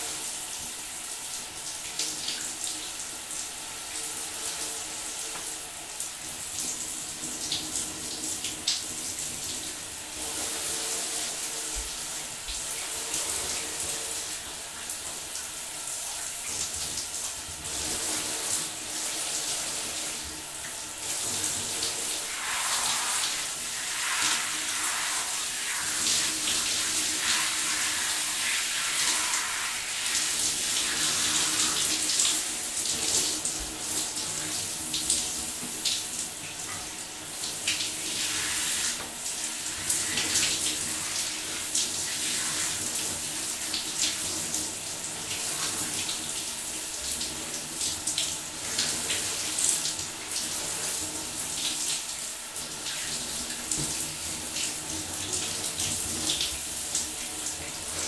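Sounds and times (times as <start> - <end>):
shower water spray hissing: 0.0 - 58.0.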